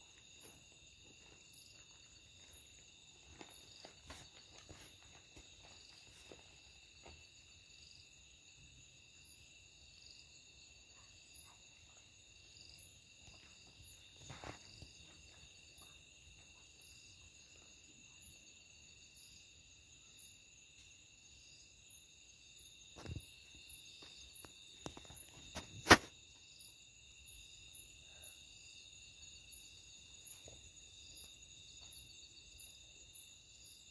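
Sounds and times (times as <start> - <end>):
faint insect chirp: 0.0 - 33.9
insects trilling: 0.0 - 33.9.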